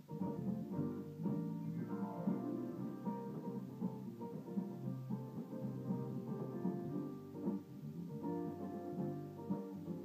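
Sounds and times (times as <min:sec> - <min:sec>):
electronic keyboard: 0:00.0 - 0:10.0.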